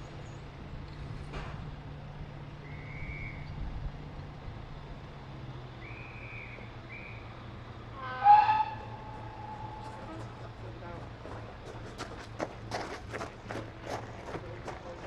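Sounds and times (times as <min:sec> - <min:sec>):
diesel locomotive engine droning: 0:00.0 - 0:15.0.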